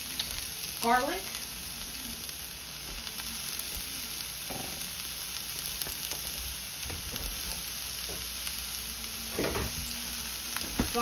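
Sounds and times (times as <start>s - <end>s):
cabbage sizzling in a frying pan: 0.0s - 11.0s.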